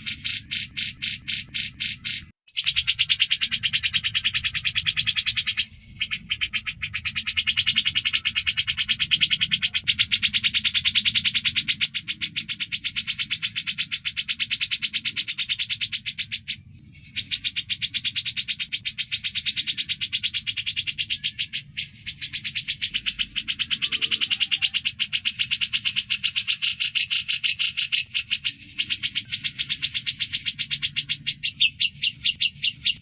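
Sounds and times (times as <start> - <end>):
songbird trilling: 0.0 - 33.0.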